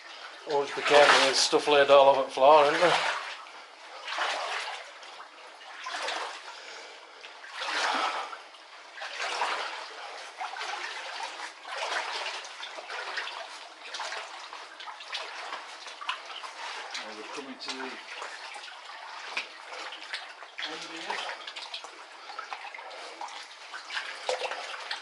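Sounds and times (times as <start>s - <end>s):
water sloshing around wading legs: 0.0s - 25.0s.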